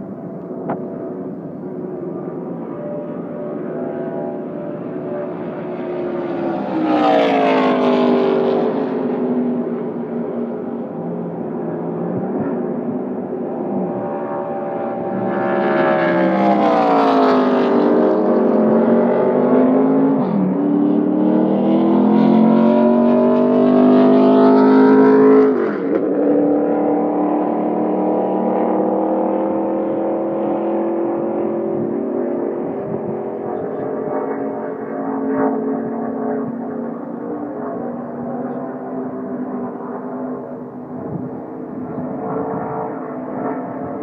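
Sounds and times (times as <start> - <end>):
race car engines passing: 0.0 - 44.0.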